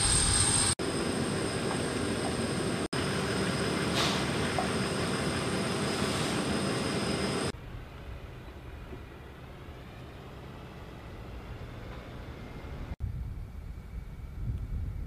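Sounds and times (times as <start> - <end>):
aircraft turbine whine: 0.0 - 15.0
outdoor wind: 0.0 - 15.0.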